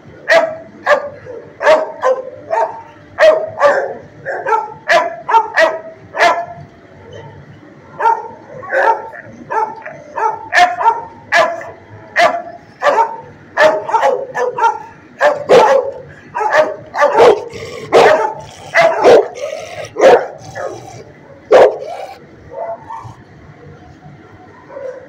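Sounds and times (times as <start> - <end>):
dog barking: 0.3 - 23.2, 24.7 - 25.0.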